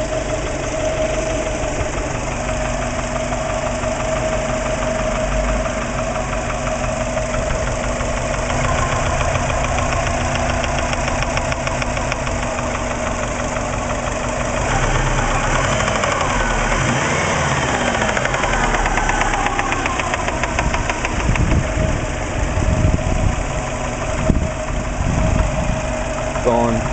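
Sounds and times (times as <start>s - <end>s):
car engine running: 0.0s - 26.9s
rapid ticking engine knock: 0.0s - 26.9s.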